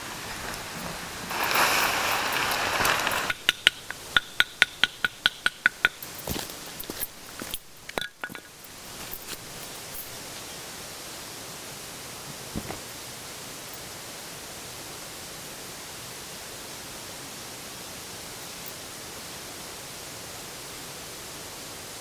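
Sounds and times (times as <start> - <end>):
hiss: 0.0 - 22.0.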